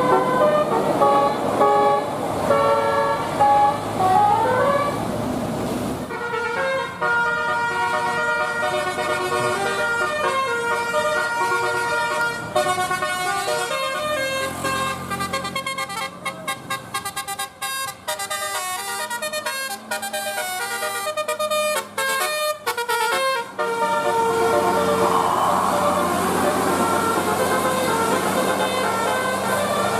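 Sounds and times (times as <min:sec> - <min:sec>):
bus musical air horn tune: 0:00.0 - 0:05.0, 0:06.1 - 0:29.9.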